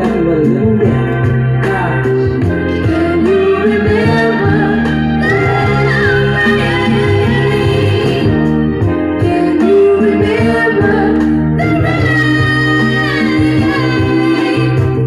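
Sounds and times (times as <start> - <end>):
high singing voice: 0.0 - 8.4, 9.2 - 15.0
bass: 0.0 - 15.0
guitar: 0.0 - 15.0.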